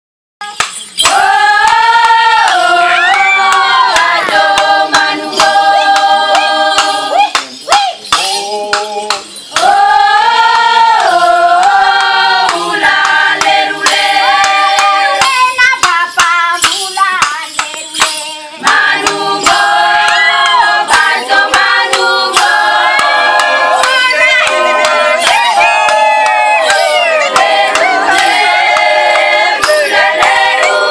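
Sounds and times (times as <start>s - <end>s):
women singing together: 0.4s - 30.9s.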